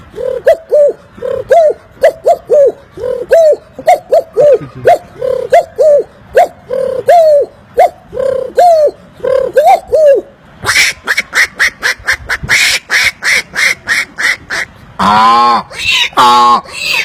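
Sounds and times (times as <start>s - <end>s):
man imitating animal calls: 0.0s - 17.0s.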